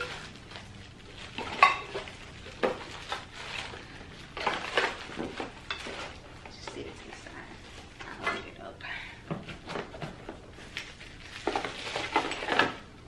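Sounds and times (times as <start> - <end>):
plastic packaging crinkling: 0.0 - 8.3, 9.5 - 13.0.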